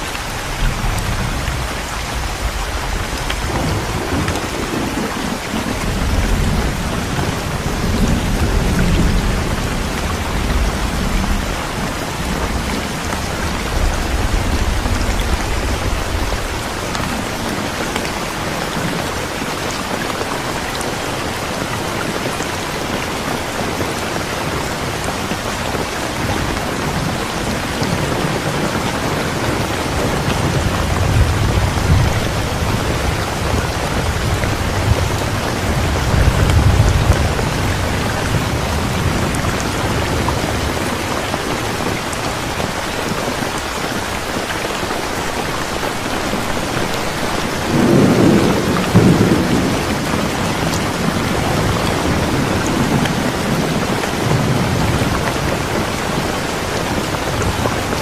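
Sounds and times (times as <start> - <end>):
thunder rumbling: 0.0 - 19.6, 22.6 - 44.5, 45.3 - 58.0
steady rain falling: 0.0 - 58.0.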